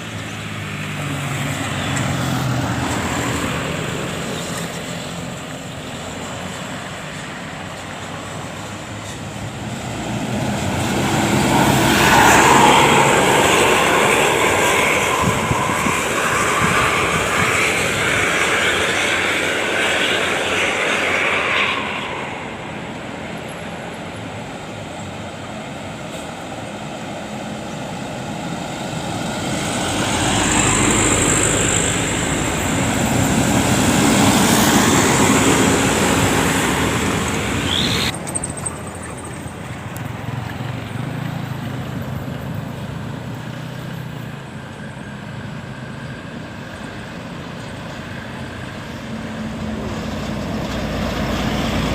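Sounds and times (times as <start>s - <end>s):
heavy vehicles passing: 0.0s - 51.9s.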